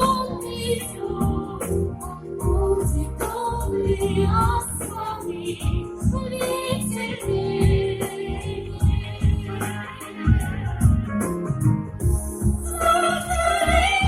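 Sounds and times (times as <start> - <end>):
pop backing track music: 0.0 - 14.0.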